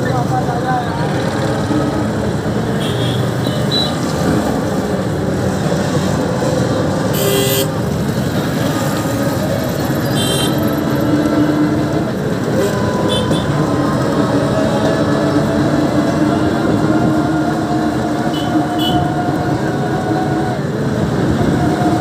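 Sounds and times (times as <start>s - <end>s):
engine and road noise: 0.0s - 22.0s.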